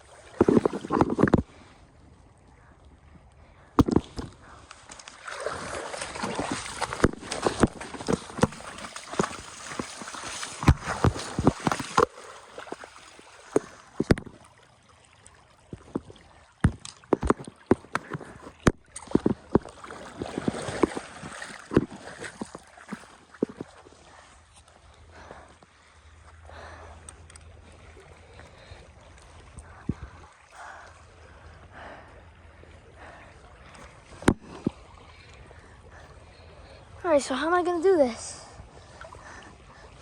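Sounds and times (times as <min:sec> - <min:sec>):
water splashing and sloshing: 0:00.0 - 0:40.0.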